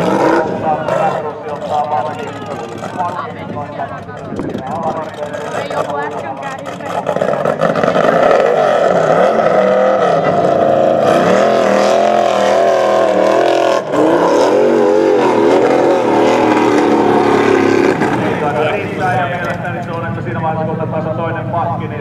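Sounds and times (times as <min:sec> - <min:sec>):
buggy engine revving hard: 0:00.0 - 0:03.2, 0:04.4 - 0:19.7.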